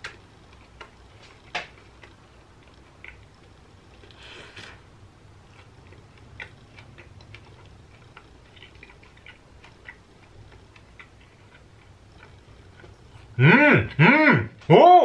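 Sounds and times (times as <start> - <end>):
closed-mouth chewing: 0.0 - 14.2.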